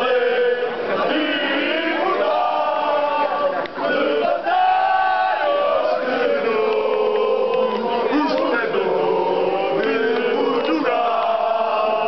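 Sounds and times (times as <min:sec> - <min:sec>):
crowd chanting: 0:00.0 - 0:12.0.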